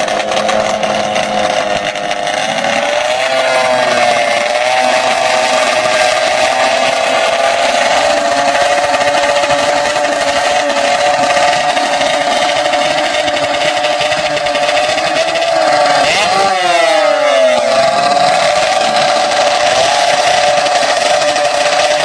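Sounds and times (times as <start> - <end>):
motorcycle engines revving high: 0.0 - 22.0.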